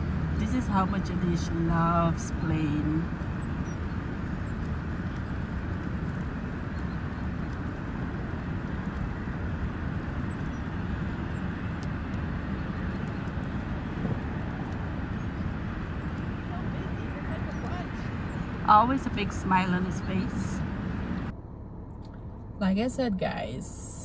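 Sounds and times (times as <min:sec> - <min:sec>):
airplane engine rumble: 0:00.0 - 0:24.0.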